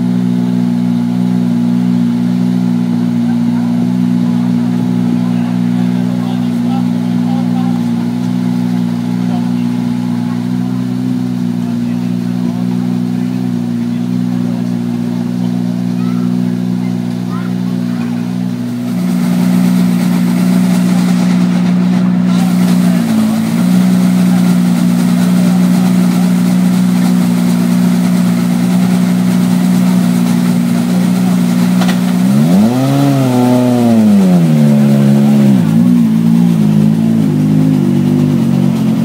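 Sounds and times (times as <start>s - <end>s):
rally car engine idling and revving: 0.0s - 39.0s.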